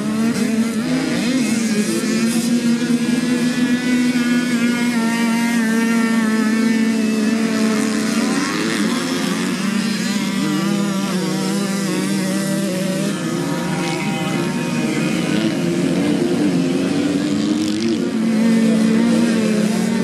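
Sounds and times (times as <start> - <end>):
motocross bikes racing: 0.0 - 20.0.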